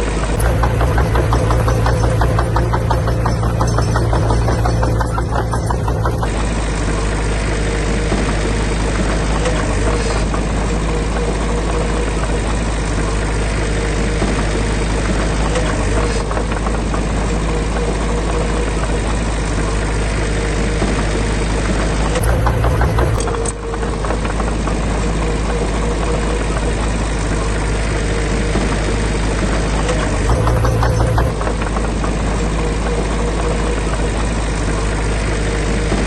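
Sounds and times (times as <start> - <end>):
diesel engine running steadily: 0.0 - 36.0.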